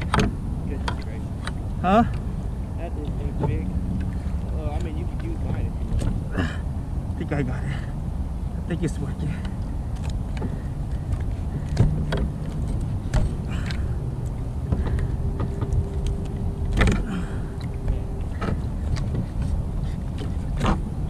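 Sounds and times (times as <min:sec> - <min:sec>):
wind and water rumble: 0:00.0 - 0:21.0.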